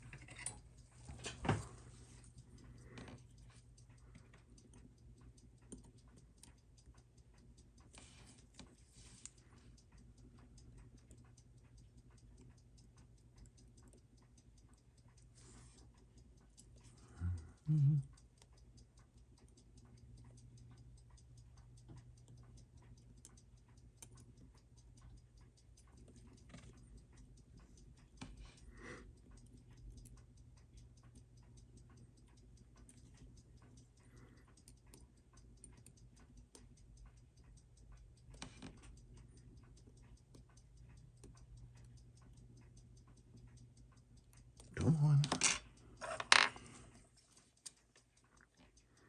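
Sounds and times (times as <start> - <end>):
clock ticking rapidly: 0.0 - 49.0.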